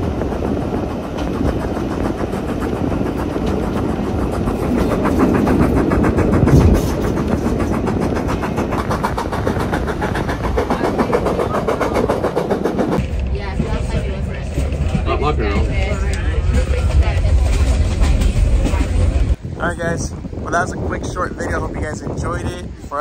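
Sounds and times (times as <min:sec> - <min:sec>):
train wheels on rails: 0:00.0 - 0:19.4
train rumble: 0:00.0 - 0:23.0.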